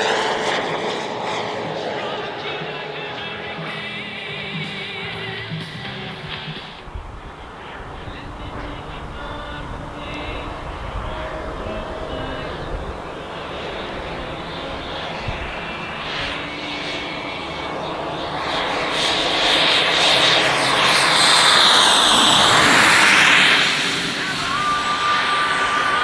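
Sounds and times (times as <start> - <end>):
jet turbine whine: 0.0 - 26.0.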